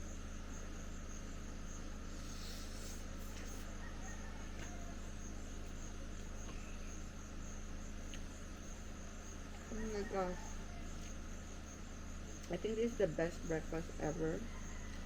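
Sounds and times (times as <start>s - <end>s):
crickets chirping trill: 0.0s - 15.0s
low steady hum: 0.0s - 15.0s.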